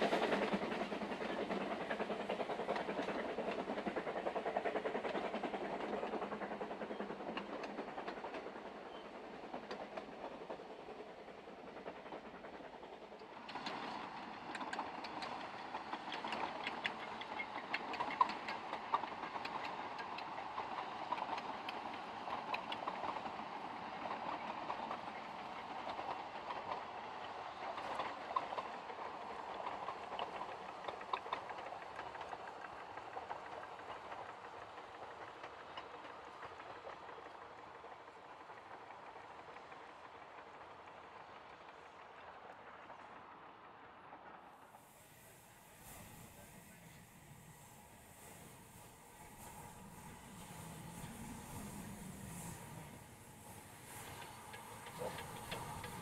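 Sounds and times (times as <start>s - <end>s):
steam train passing: 0.0s - 56.0s
train wheels clicking on rail joints: 0.0s - 56.0s.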